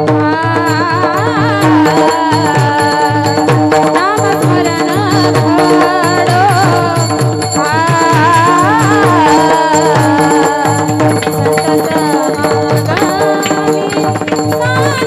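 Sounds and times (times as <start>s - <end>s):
girl singing: 0.0s - 15.0s
held instrumental tones: 0.0s - 15.0s
repeating drum beat: 0.0s - 15.0s.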